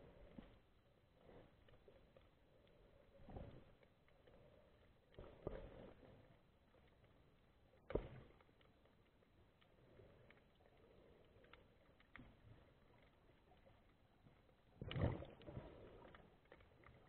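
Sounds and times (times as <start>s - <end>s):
faint underwater clicks: 0.0s - 17.0s.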